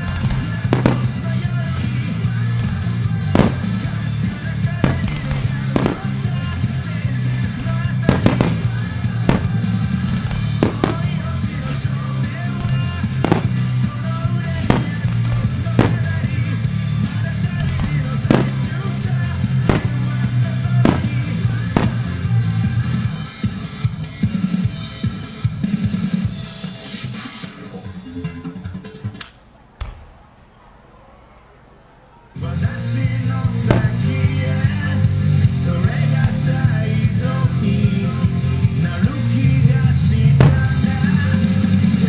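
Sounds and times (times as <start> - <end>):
fireworks bursting with sharp booms: 0.0 - 27.4, 29.8 - 30.8, 33.3 - 42.0
rock song over loudspeakers: 0.0 - 29.2, 32.4 - 42.0.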